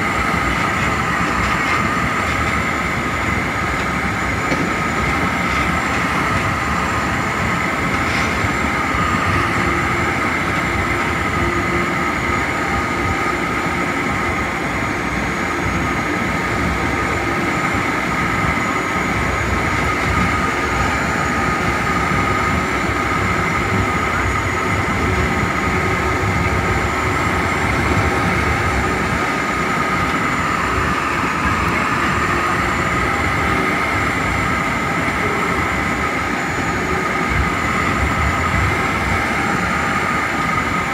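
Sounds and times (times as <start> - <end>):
high whine: 0.0 - 40.9
train wheels rumbling on rails: 0.0 - 40.9.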